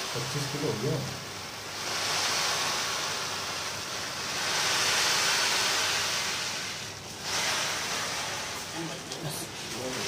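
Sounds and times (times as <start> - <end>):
rice grains rustling: 0.0 - 10.0
rice pouring onto pile: 0.0 - 10.0.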